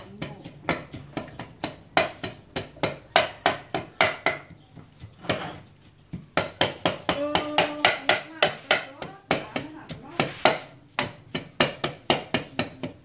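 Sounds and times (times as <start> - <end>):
pestle pounding in a clay mortar: 0.0 - 13.0.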